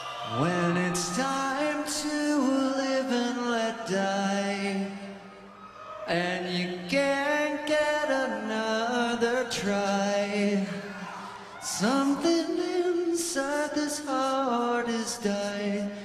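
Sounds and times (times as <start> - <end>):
man singing rock vocal: 0.3 - 5.2, 6.1 - 16.0.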